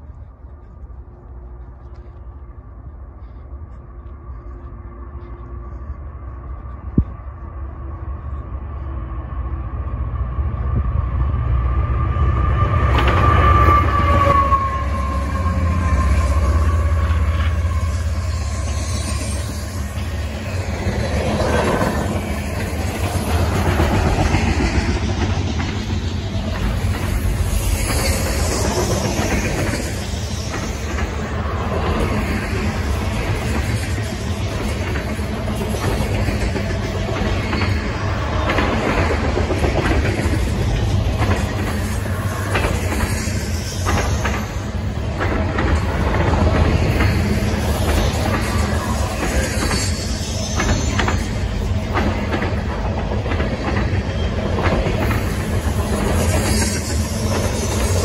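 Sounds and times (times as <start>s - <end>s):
steel wheels on rails: 0.0s - 58.0s.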